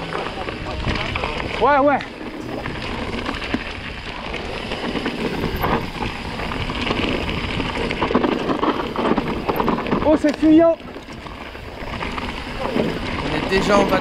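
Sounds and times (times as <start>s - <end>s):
bike tyres rattling over rocks: 0.0s - 14.0s
small knocks from bike: 0.0s - 14.0s.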